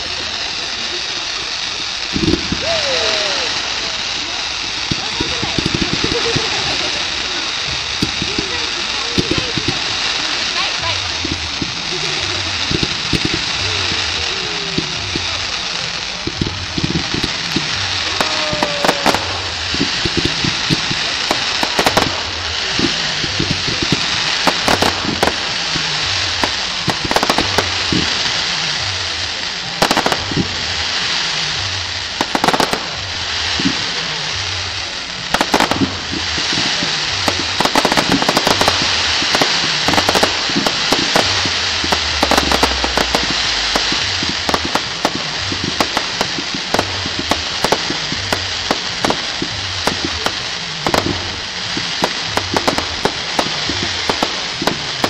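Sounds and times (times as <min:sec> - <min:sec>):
fireworks crackling and banging: 0:00.0 - 0:55.0
firework whistle: 0:01.4 - 0:08.5, 0:11.6 - 0:55.0.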